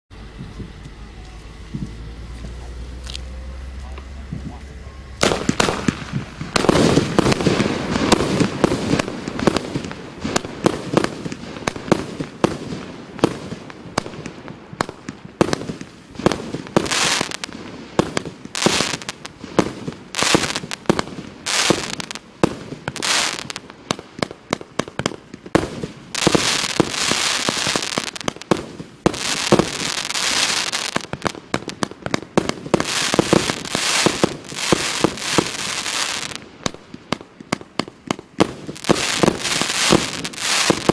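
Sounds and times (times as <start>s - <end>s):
fireworks crackling: 0.1s - 40.9s
fireworks launches and bursts: 0.1s - 40.9s.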